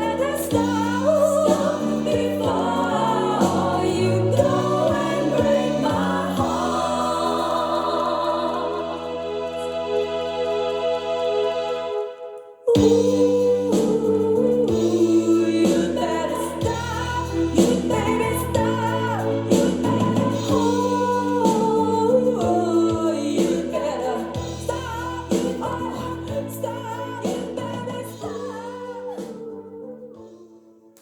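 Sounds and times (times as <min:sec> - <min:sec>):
song with singing: 0:00.0 - 0:31.0.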